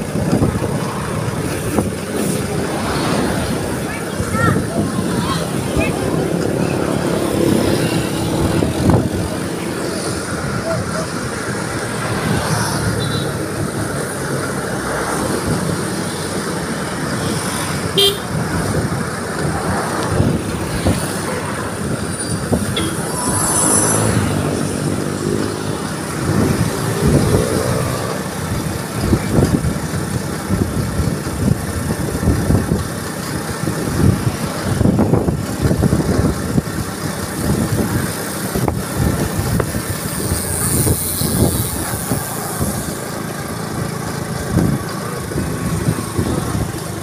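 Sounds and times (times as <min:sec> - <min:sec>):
wind buffeting microphone: 0:00.0 - 0:11.9, 0:18.2 - 0:47.0
passing road traffic: 0:00.0 - 0:47.0.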